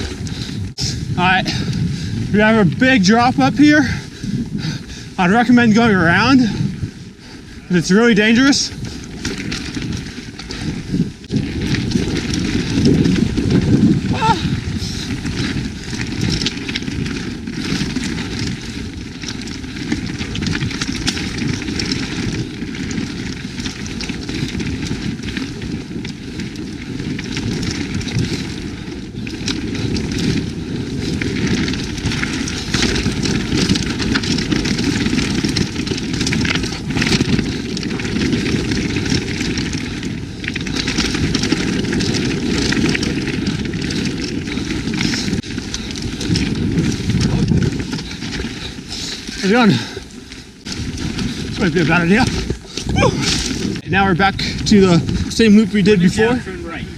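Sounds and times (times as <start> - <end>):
bike clicks and rattles: 0.0 - 56.9
rumble of tyres and air: 0.0 - 56.9.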